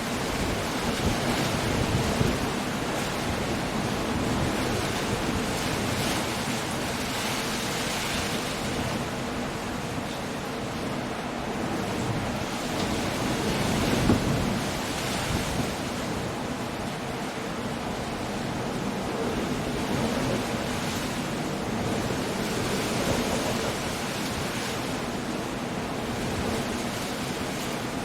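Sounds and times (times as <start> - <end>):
rain: 0.0 - 28.0
wind: 0.0 - 28.0.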